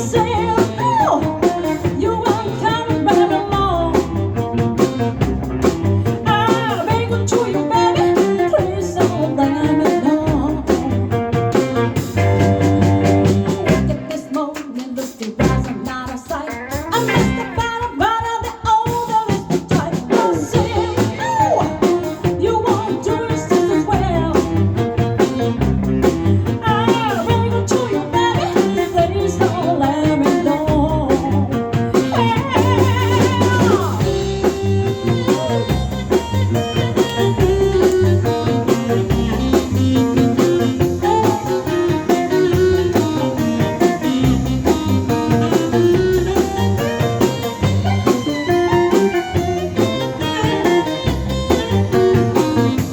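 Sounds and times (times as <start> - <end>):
band playing blues: 0.0 - 52.9.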